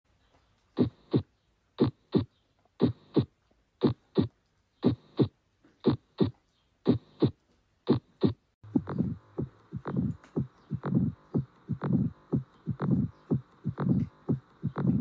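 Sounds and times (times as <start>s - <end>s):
heartbeat: 0.8s - 15.0s.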